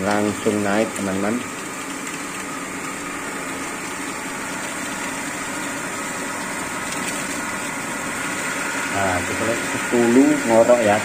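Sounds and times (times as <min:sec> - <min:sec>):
water pump motor humming: 0:00.0 - 0:11.0.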